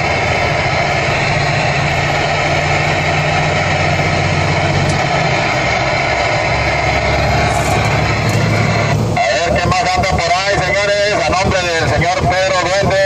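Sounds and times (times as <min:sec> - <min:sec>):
diesel truck engine pulling: 0:00.0 - 0:13.0
road noise: 0:00.0 - 0:13.0.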